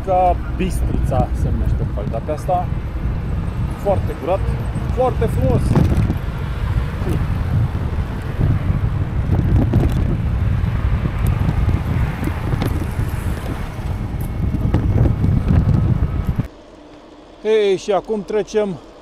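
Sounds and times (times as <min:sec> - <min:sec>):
wind buffeting microphone: 0:00.0 - 0:16.5
road noise: 0:00.0 - 0:19.0.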